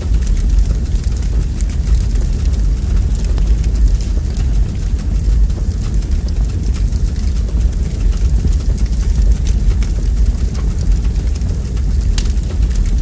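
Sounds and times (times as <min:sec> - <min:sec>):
log fire crackling: 0:00.0 - 0:13.0.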